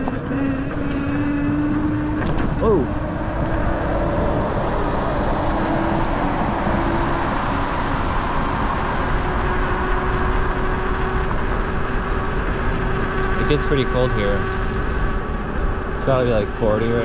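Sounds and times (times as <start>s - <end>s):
faint hub motor whine: 0.0s - 17.0s
wind rushing over microphone: 0.0s - 17.0s.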